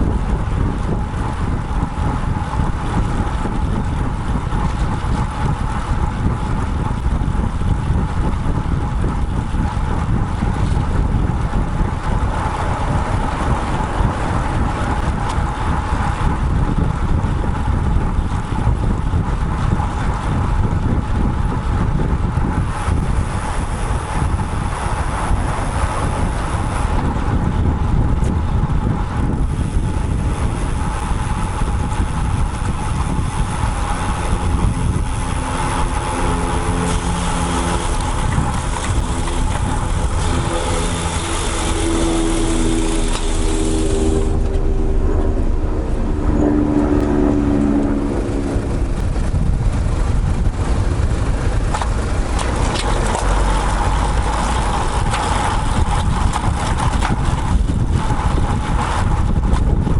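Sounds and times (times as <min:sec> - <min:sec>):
motor vehicle engine hum: 0:00.0 - 0:59.9
wind noise on microphone: 0:00.0 - 0:59.9.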